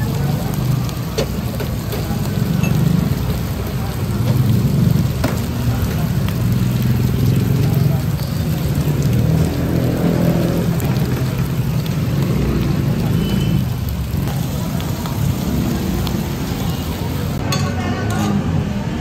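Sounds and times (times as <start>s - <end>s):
food sizzling on hot plate: 0.0s - 18.7s.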